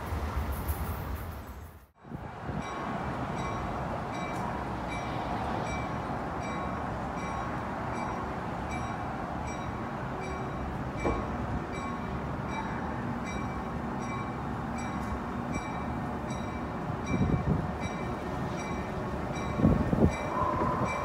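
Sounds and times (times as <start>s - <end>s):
low train rumble: 0.0s - 21.0s
train bell ringing: 2.6s - 21.0s.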